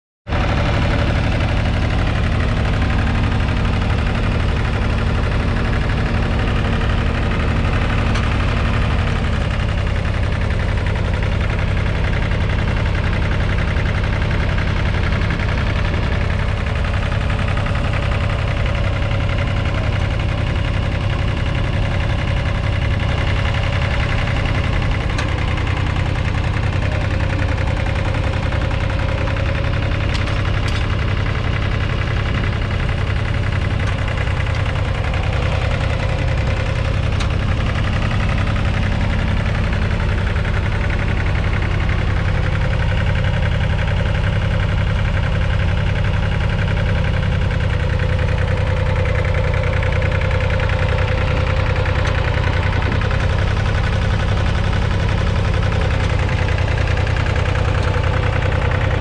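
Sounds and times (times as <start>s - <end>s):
tractor diesel engine under load: 0.3s - 59.0s.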